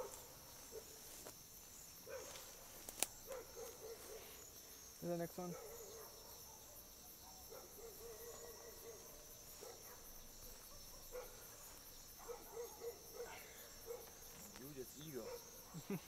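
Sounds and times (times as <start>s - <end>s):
crickets and insects trilling: 0.0s - 16.0s.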